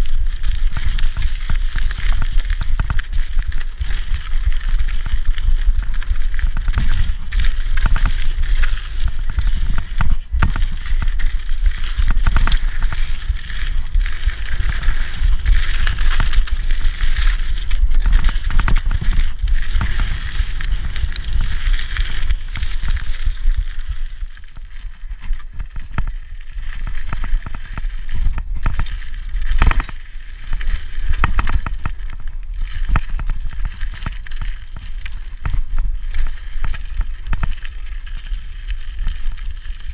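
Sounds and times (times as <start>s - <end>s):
bike rattling over bumps: 0.0s - 39.9s
tyres crunching over dirt: 0.0s - 39.9s.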